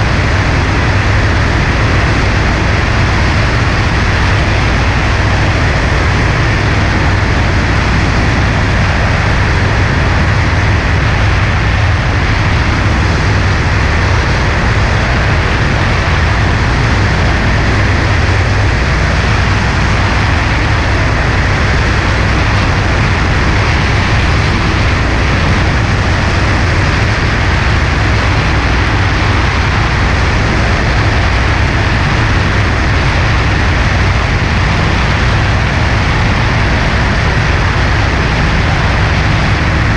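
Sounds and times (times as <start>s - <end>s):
light aircraft engine drone: 0.0s - 39.9s
rushing airflow: 0.0s - 39.9s.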